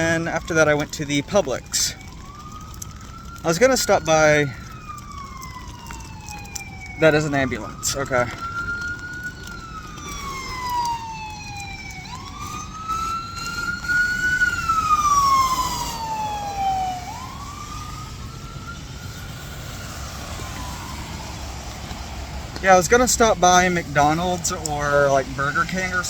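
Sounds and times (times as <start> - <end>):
ambulance siren wailing: 0.0 - 26.0.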